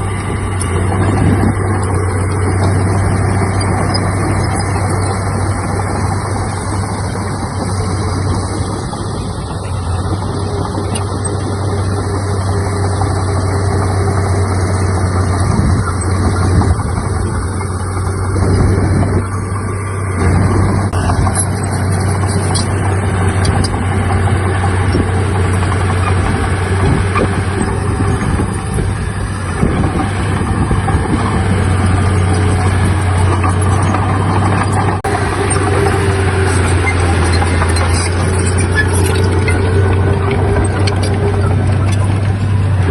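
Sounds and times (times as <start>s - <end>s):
heavy diesel machinery running: 0.0s - 42.9s.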